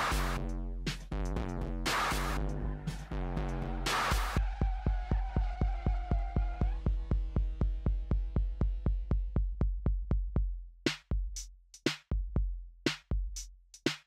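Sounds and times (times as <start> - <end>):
bass kicks and snare hits: 0.0 - 11.3
fast kick drum pulse: 0.0 - 11.4.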